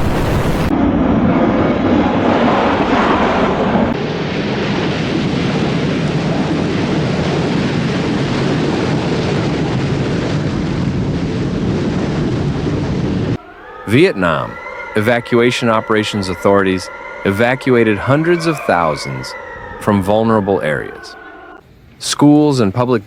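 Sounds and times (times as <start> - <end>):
storm wind: 0.0 - 21.8.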